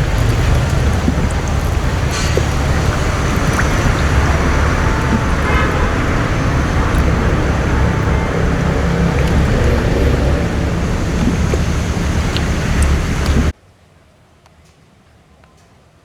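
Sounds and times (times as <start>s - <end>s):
boat engine rumbling: 0.0s - 13.5s.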